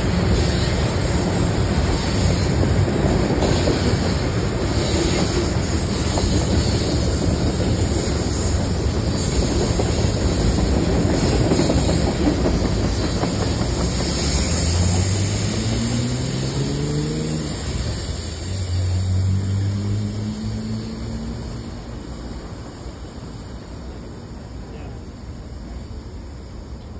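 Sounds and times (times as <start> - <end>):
freight train wheels rumbling: 0.0 - 26.9.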